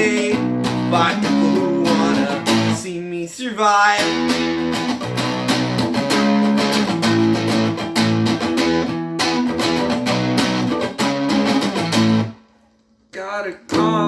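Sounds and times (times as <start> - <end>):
amplified guitar strumming chords: 0.0 - 3.0, 4.0 - 12.6, 13.7 - 14.0.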